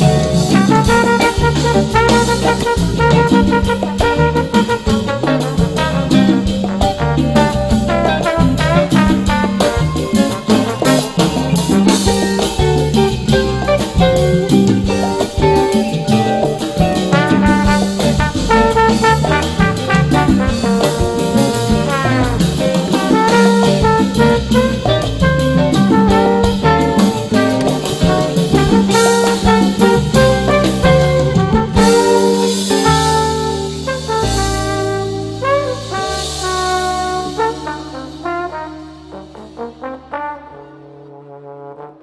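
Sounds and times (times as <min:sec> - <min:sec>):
upbeat jazz with brass and drums: 0:00.0 - 0:42.0.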